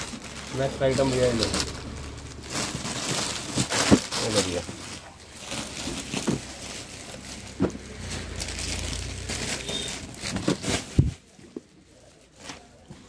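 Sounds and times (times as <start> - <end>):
fabric and packaging rustling: 0.0 - 13.0.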